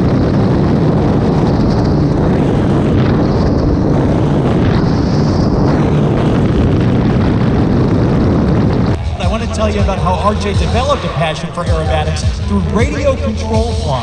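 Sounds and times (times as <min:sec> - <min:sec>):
aircraft engine noise: 0:00.0 - 0:14.0.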